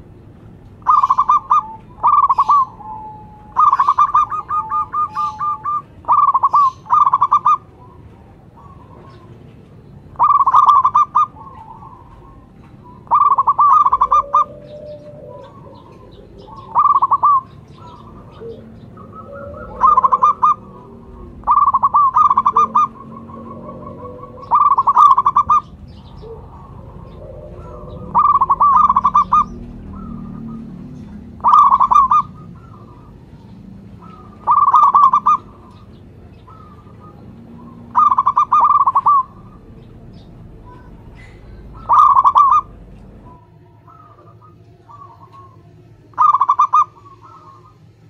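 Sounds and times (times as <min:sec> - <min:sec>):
dove cooing: 0:00.0 - 0:48.0.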